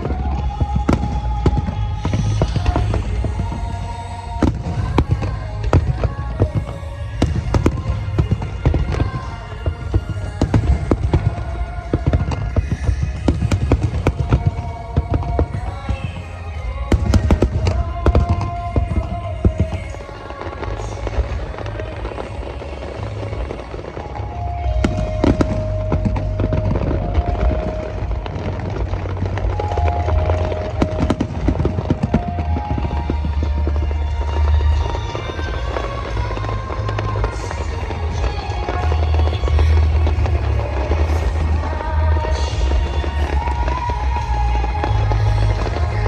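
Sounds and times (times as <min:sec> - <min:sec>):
fireworks bursting: 0:00.0 - 0:46.0
low rumble: 0:00.0 - 0:46.0
music playing: 0:00.0 - 0:46.0.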